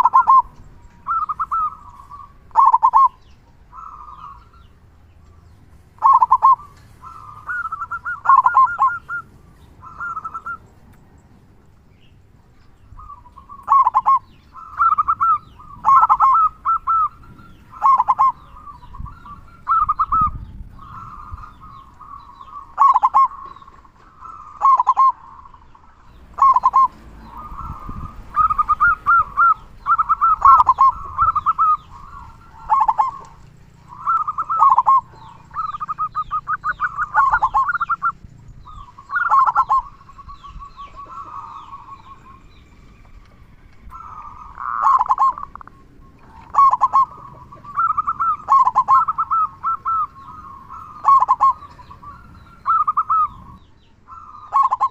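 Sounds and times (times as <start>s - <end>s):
dove cooing: 0.0s - 4.7s, 5.4s - 10.9s, 12.9s - 54.9s.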